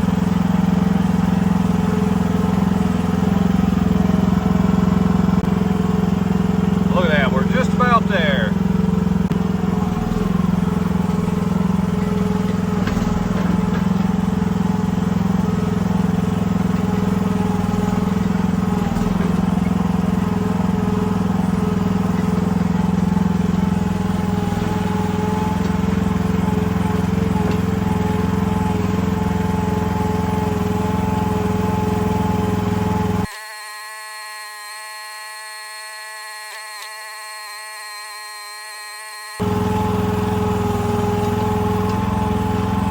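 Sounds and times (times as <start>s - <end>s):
excavator engine running: 0.0s - 33.3s, 39.4s - 42.9s.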